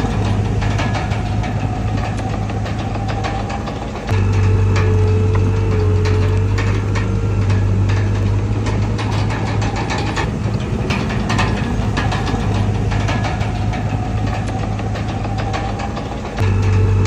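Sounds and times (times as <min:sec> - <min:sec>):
bulldozer diesel engine running: 0:00.0 - 0:17.0
metallic clanks and knocks: 0:00.0 - 0:17.0.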